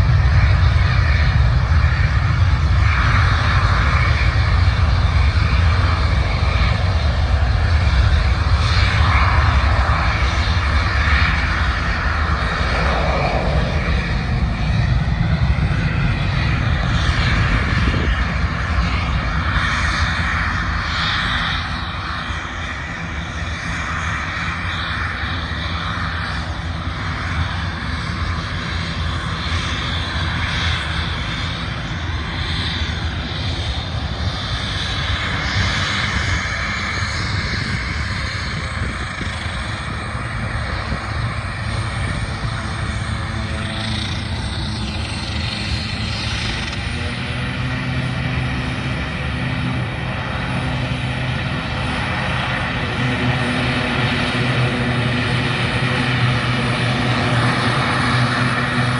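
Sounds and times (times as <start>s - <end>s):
aircraft engines droning: 0.0s - 58.9s.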